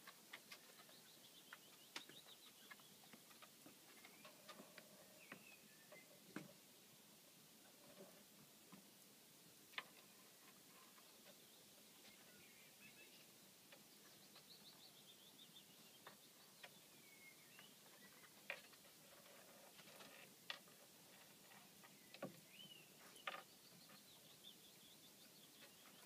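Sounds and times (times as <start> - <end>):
birds chirping: 0.0 - 6.9, 9.8 - 26.0.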